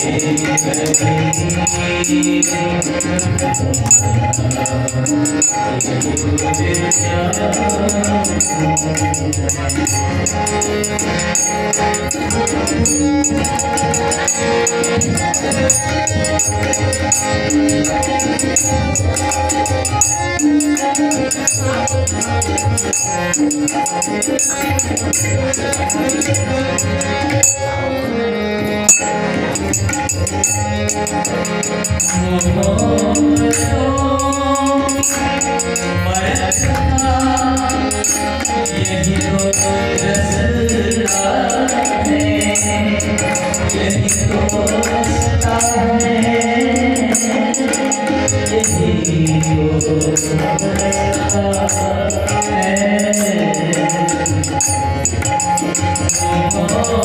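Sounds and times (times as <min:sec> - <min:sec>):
harmonium chords: 0:00.0 - 0:57.0
man singing: 0:00.0 - 0:57.0
tabla rhythm: 0:00.0 - 0:57.0.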